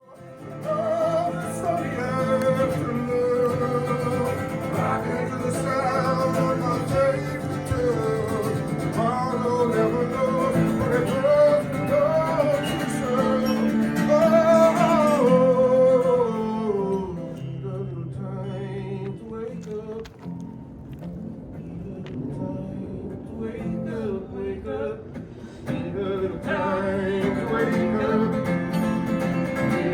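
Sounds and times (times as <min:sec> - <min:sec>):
plucked acoustic guitar: 0:00.0 - 0:29.9.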